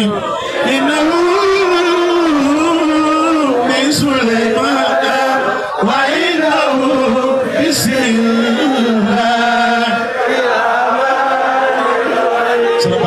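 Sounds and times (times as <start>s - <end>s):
man reciting melodically: 0.0s - 10.2s, 12.5s - 13.0s.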